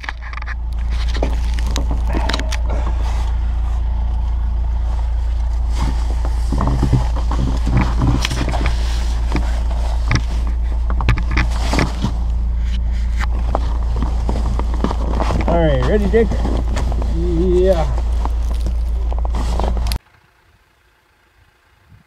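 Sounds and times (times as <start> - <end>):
scraping and knocks: 0.0 - 20.0
excavator diesel engine running: 0.0 - 22.0.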